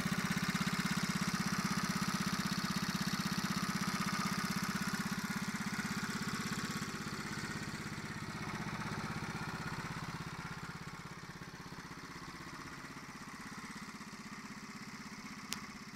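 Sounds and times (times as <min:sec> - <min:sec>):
small motorcycle engine idling: 0:00.0 - 0:15.9.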